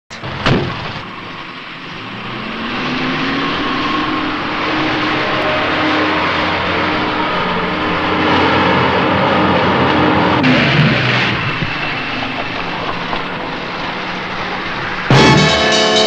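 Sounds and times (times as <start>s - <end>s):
garbage truck engine running: 0.1s - 16.0s.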